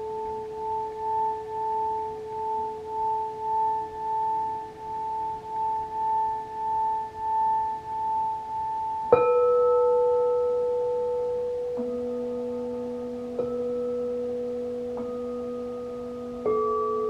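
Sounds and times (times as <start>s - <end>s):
singing bowl rim tones: 0.0s - 17.0s
singing bowl struck ringing: 0.0s - 17.0s.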